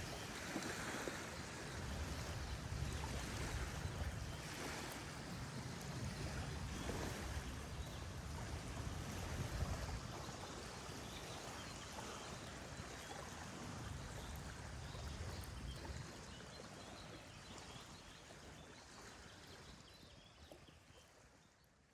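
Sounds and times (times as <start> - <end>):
running stream water: 0.0 - 21.9.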